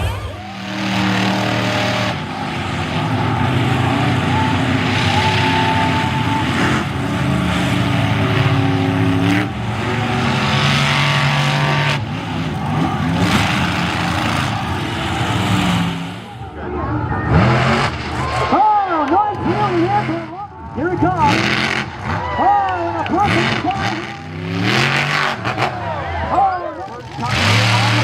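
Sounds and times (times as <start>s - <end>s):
monster truck engines revving: 0.0s - 28.0s.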